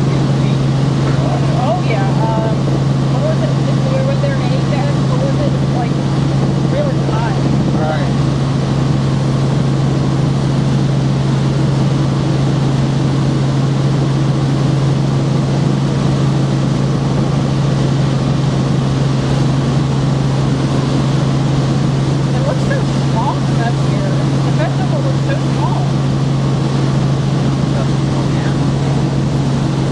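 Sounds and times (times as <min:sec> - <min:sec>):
helicopter engine and rotors drone: 0:00.0 - 0:29.9.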